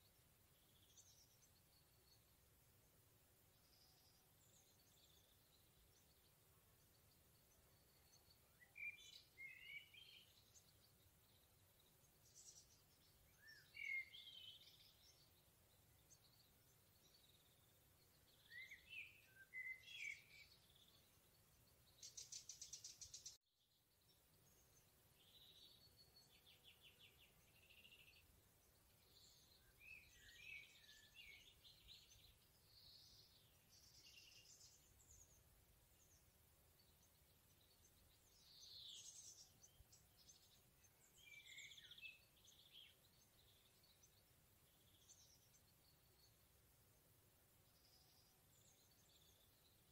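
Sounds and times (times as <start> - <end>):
songbirds singing: 0.0 - 49.9.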